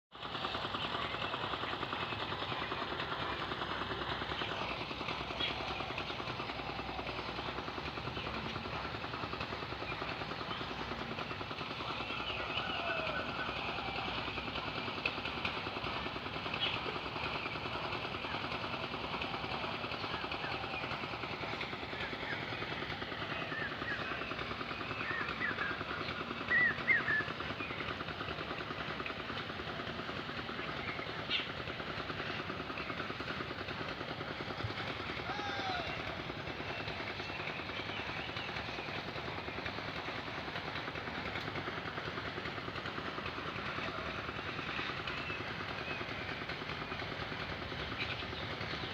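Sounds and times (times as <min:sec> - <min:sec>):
rapid pulsing drone: 0:00.1 - 0:48.9
birds chirping: 0:00.4 - 0:14.4, 0:15.4 - 0:48.9.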